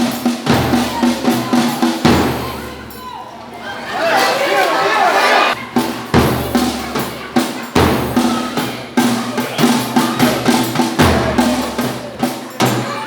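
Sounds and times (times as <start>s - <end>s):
drums beating: 0.0s - 13.0s.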